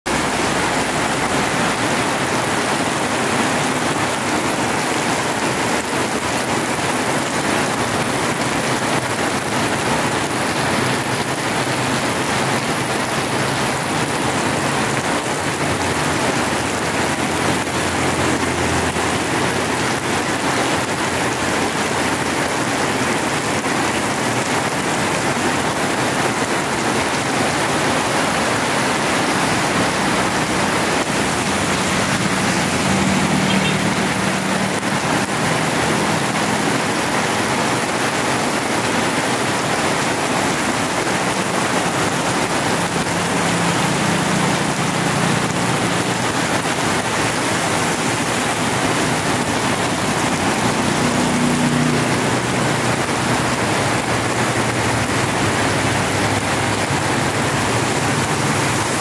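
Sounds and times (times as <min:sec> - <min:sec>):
heavy rain on a wet road: 0:00.1 - 0:59.0.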